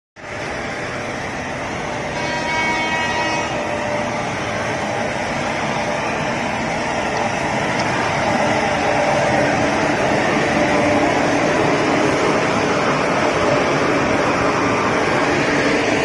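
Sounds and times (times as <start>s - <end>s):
railway coach in washing plant: 0.2s - 16.0s.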